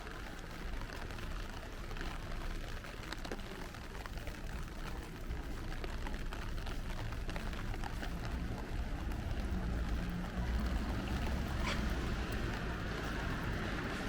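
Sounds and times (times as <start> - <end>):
rain pattering on a street: 0.0 - 14.0.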